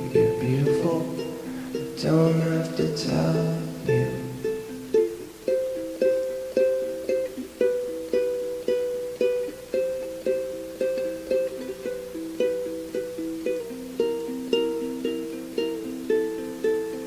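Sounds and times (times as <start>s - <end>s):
plucked string instrument notes: 0.0s - 17.0s.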